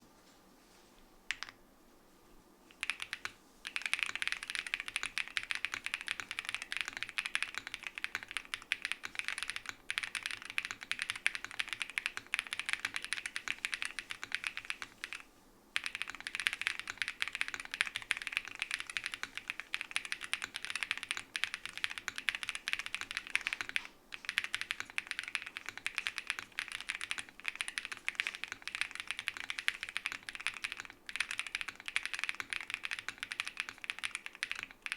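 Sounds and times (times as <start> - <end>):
mechanical keyboard typing: 2.8 - 15.2, 15.8 - 34.9.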